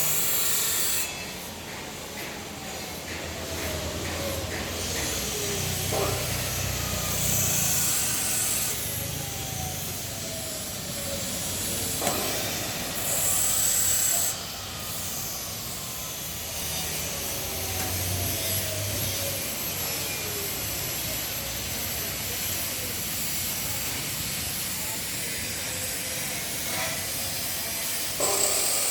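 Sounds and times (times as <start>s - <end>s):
steam hissing from pipework: 0.0s - 28.9s.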